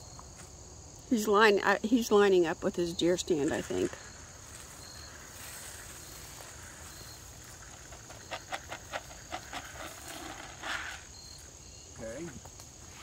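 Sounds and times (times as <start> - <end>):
insect chirring: 0.0 - 13.0.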